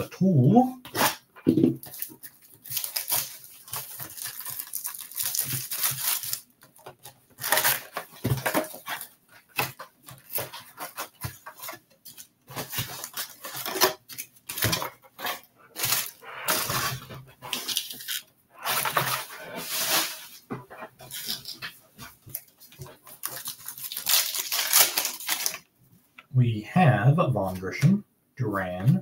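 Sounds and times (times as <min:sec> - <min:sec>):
plastic and cardboard crinkling: 0:00.8 - 0:25.7.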